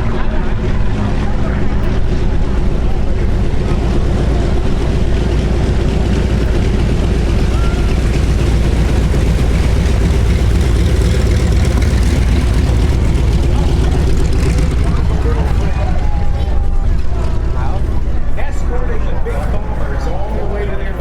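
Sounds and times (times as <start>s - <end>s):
piston aircraft engine droning: 0.0s - 21.0s.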